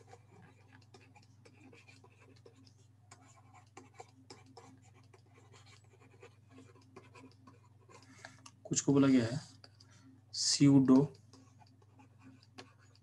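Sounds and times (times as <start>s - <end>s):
low steady hum: 0.0s - 13.0s
stylus scratching and tapping tablet: 0.0s - 13.0s.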